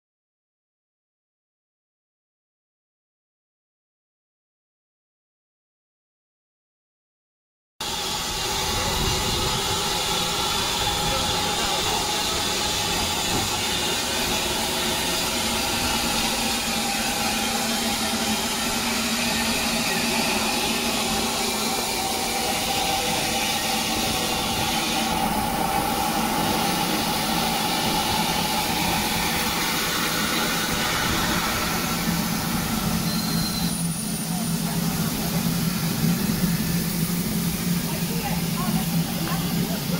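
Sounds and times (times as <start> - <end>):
steam hissing: 7.8 - 39.9.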